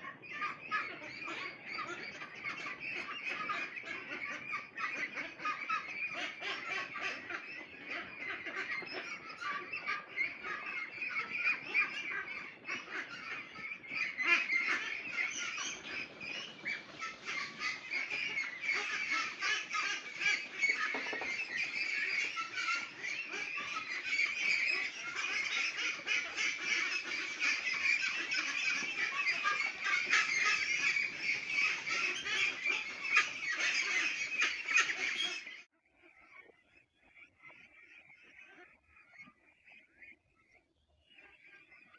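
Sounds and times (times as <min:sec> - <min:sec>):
flock of ducks calling: 0:00.0 - 0:41.9.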